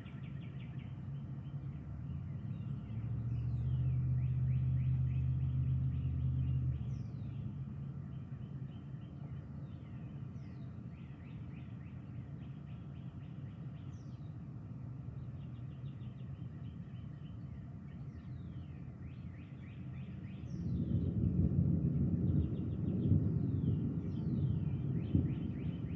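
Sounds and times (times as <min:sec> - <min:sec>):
birds chirping: 0:00.0 - 0:21.3, 0:21.9 - 0:25.9
low steady rumble: 0:00.0 - 0:25.9.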